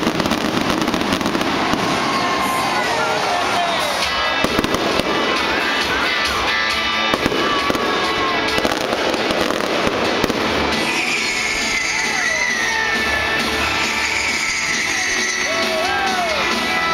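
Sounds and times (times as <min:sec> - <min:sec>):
fireworks bangs: 0:00.0 - 0:16.9
music playing: 0:00.0 - 0:16.9.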